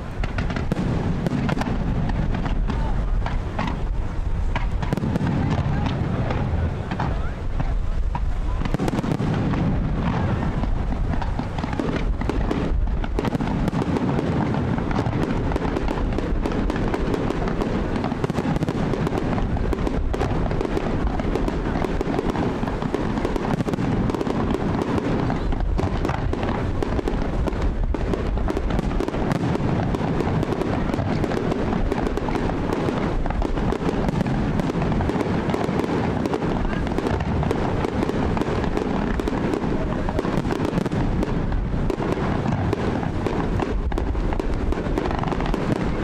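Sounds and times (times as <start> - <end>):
fireworks bursting: 0.0 - 46.0.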